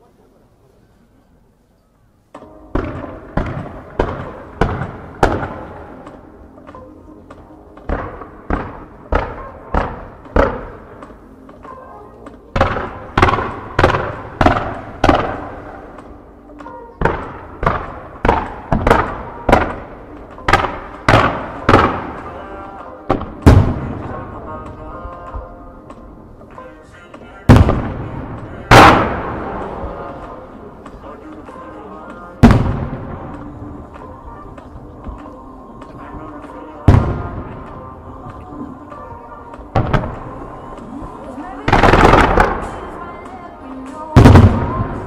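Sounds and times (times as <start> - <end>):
music with heavy echoing beat: 2.4 - 45.0.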